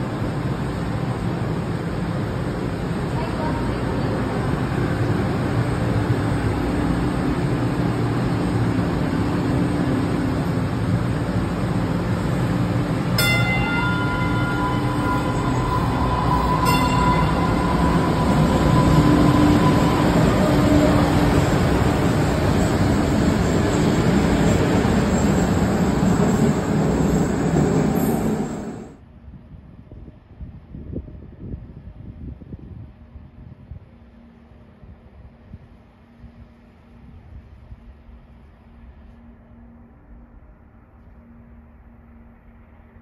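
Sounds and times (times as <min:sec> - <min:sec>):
light-rail car rumbling: 0:00.0 - 0:43.0.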